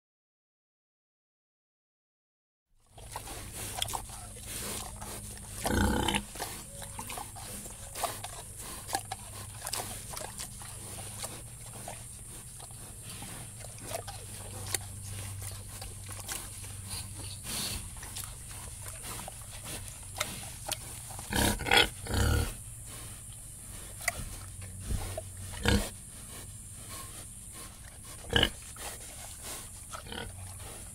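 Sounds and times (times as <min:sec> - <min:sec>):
pigs grunting: 0:02.8 - 0:30.9
steady low hum: 0:02.8 - 0:30.9.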